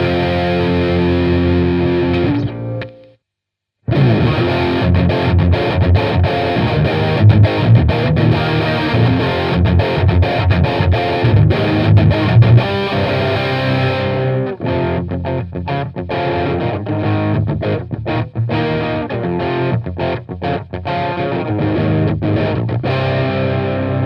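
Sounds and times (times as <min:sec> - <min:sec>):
distorted electric guitar riff: 0:00.0 - 0:03.2, 0:03.9 - 0:24.0.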